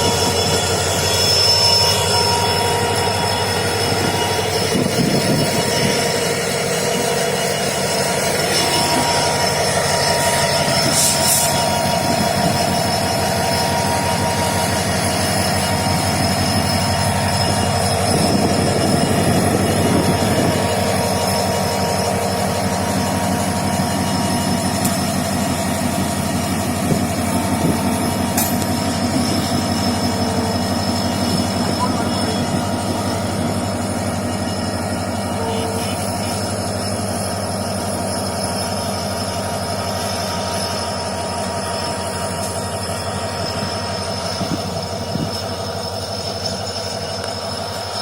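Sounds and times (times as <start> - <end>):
train wheels rolling on rails: 0.0 - 48.0.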